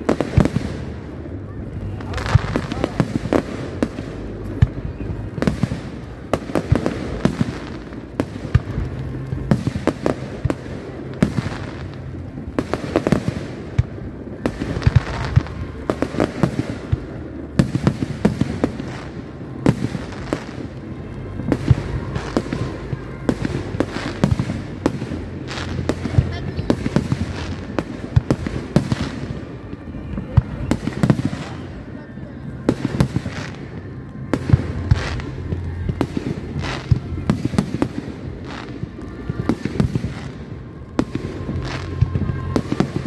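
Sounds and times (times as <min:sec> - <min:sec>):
fireworks bursting bangs: 0:00.0 - 0:43.0.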